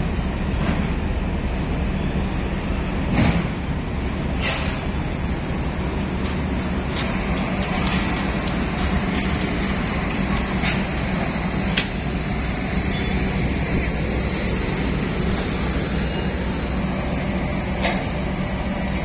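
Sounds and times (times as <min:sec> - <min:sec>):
ship machinery rumble and hum: 0:00.0 - 0:19.0.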